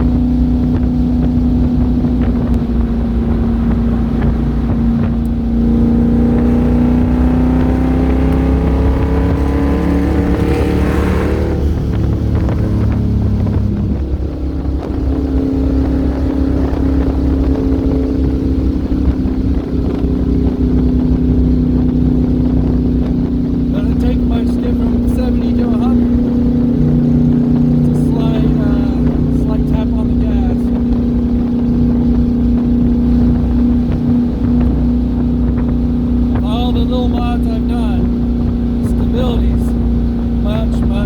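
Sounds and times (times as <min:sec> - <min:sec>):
car engine while driving: 0:00.0 - 0:41.0
wind noise: 0:00.0 - 0:41.0.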